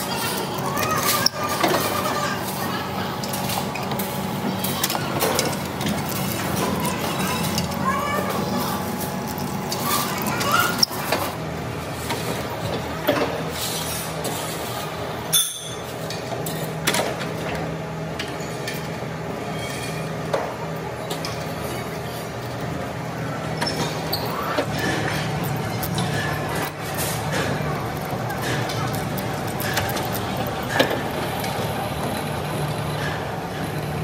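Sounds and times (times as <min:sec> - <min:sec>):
machine hum: 0:00.0 - 0:15.3, 0:20.6 - 0:34.0.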